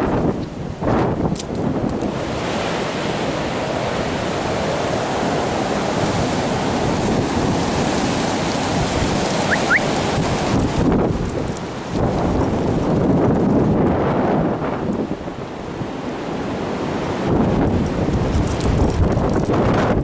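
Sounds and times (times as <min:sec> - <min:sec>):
strong wind through trees: 0:00.0 - 0:20.0
wind buffeting microphone: 0:00.0 - 0:20.0.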